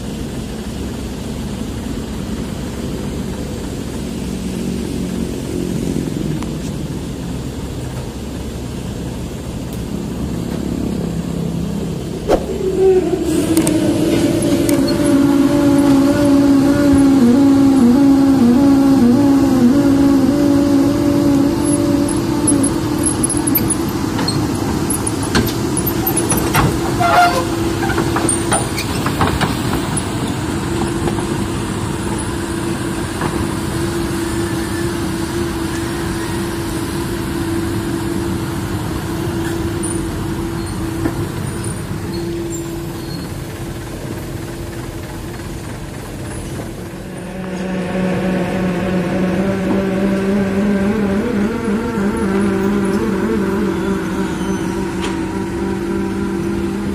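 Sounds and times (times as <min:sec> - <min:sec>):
heavy diesel vehicle running: 0:00.0 - 0:56.9.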